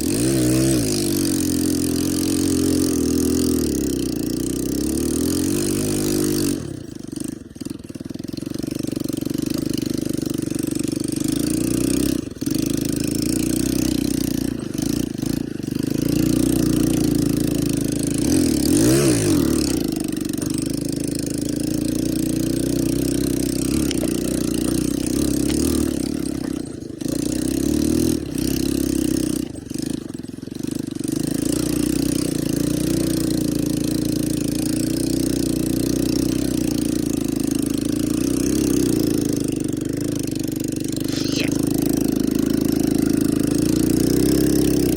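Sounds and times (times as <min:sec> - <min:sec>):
atv engine running: 0:00.0 - 0:44.9.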